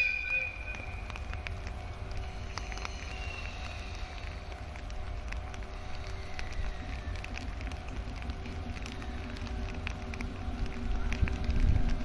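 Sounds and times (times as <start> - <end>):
faint steady hum: 0.0 - 12.0
low rumble: 0.0 - 12.0
raindrops tapping on umbrella: 0.0 - 12.0.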